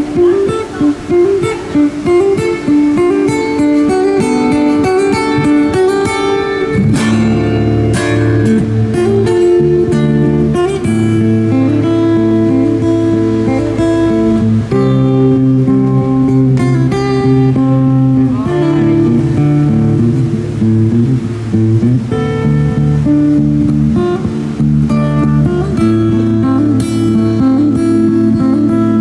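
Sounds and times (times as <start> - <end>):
fingerstyle acoustic guitar: 0.0 - 29.0.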